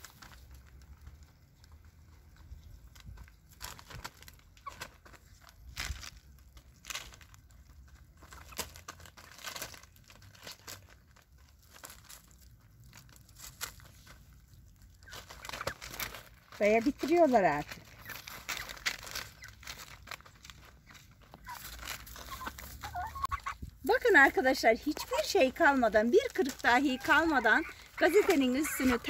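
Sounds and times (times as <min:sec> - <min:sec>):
paper crinkling: 0:00.0 - 0:29.0.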